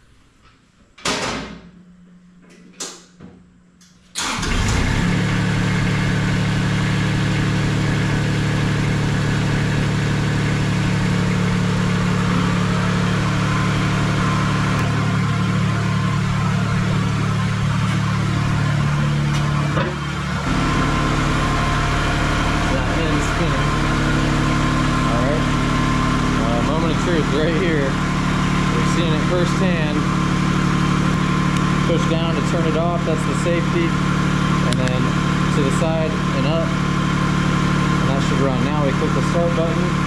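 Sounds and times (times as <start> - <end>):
loader engine idling: 4.2 - 40.0.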